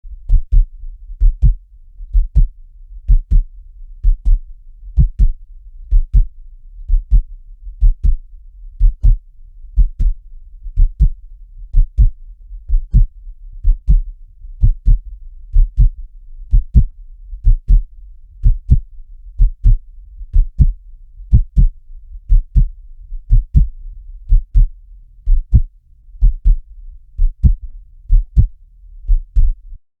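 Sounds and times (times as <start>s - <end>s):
heartbeat thumps: 0.1s - 29.7s
faint low hum: 0.1s - 29.8s.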